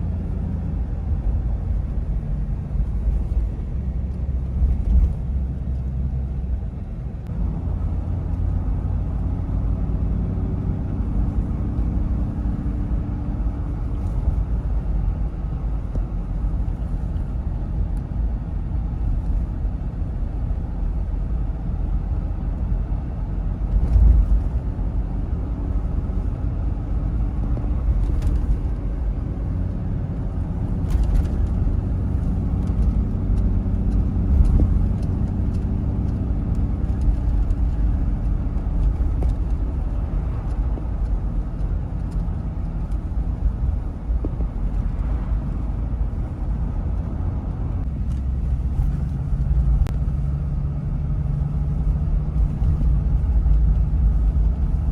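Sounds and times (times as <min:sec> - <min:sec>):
engine and road rumble: 0:00.0 - 0:54.9.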